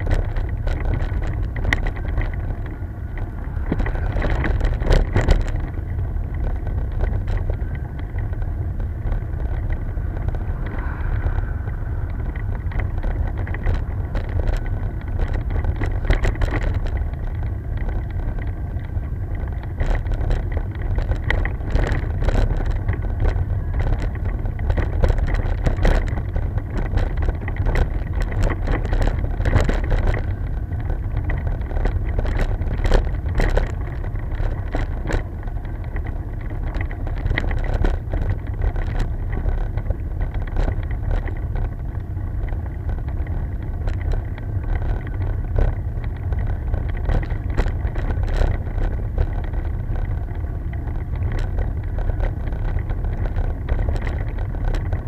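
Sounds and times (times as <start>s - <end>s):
bicycle rattles and knocks: 0.0s - 55.0s
wind buffeting microphone: 0.0s - 55.0s.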